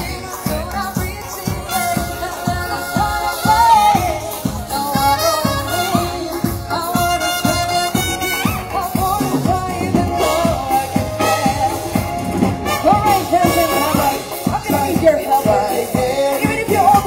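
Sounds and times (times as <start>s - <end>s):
drum kit beat: 0.0s - 17.0s
live band playing upbeat ska song: 0.0s - 17.0s.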